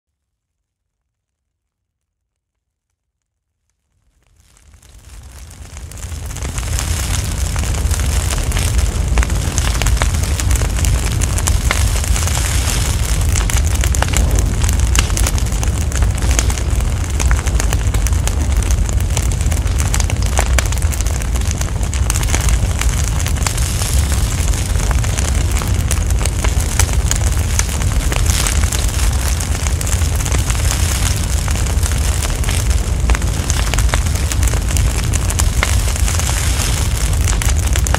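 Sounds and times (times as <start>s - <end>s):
large fire rumbling and crackling: 3.5s - 37.9s.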